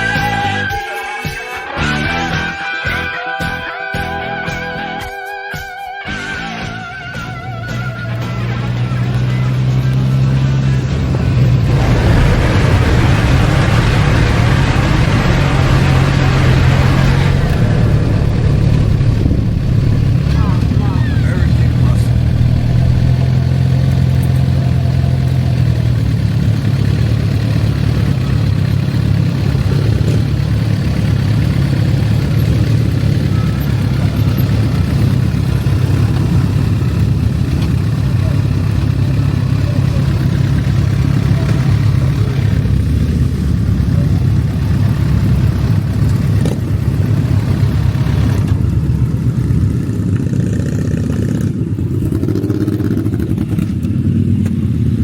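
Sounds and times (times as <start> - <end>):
motorcycle engine droning: 6.0 - 55.0.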